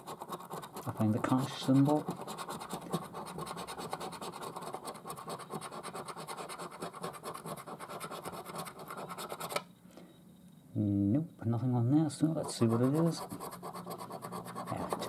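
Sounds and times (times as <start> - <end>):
coin scratching a scratchcard: 0.0 - 9.6, 12.3 - 15.0.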